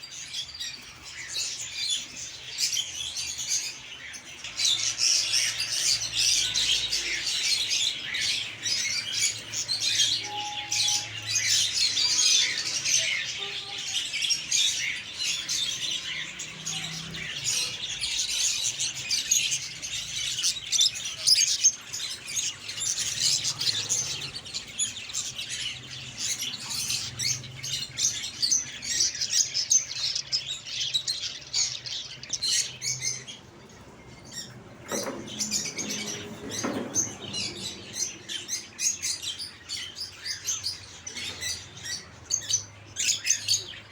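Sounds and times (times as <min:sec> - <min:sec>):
caged birds chirping: 0:00.0 - 0:43.9.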